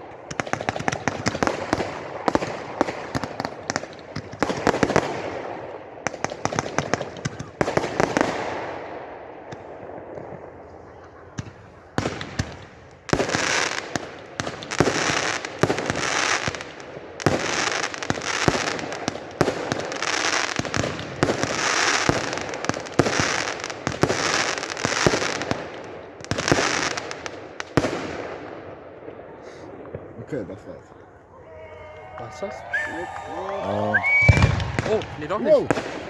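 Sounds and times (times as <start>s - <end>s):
fireworks bangs and crackle: 0.0s - 30.7s, 33.9s - 36.0s.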